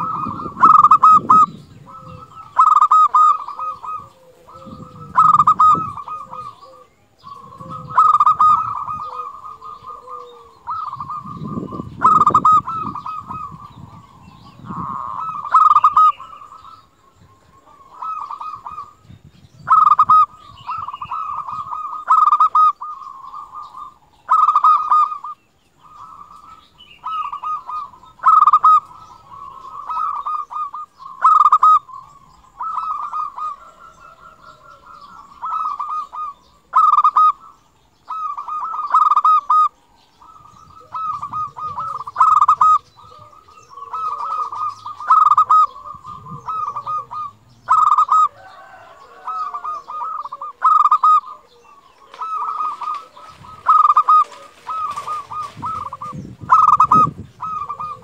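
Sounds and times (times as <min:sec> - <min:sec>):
dove cooing song: 0:00.0 - 0:58.0.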